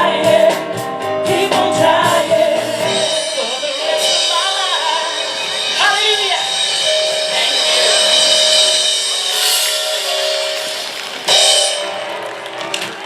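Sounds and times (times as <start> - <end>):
drum kit: 0.0 - 13.0
piano chords: 0.0 - 13.0.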